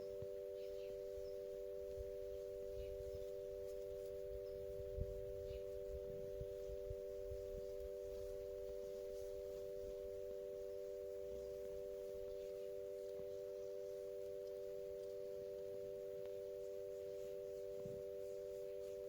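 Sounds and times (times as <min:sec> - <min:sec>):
electronic tone chord: 0:00.0 - 0:19.0.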